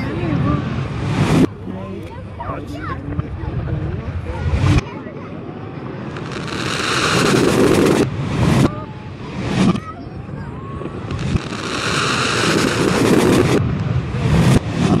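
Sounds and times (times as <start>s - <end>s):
reversed fireworks crackle and rumble: 0.0s - 1.7s, 2.8s - 15.0s.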